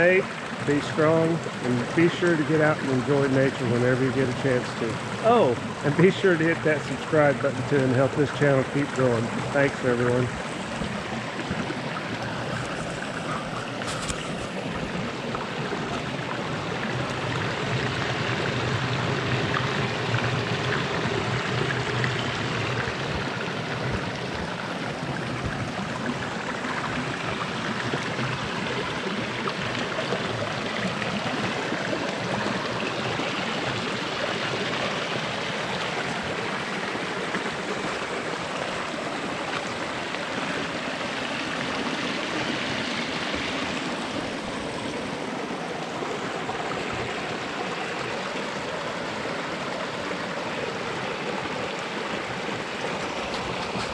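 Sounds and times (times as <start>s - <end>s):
water rushing over rocks: 0.0s - 53.9s.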